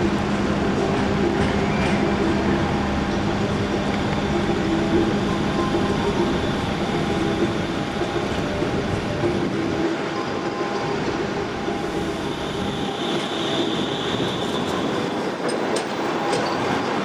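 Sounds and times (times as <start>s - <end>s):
city traffic noise: 0.0s - 17.0s
tram electric hum: 0.0s - 17.0s.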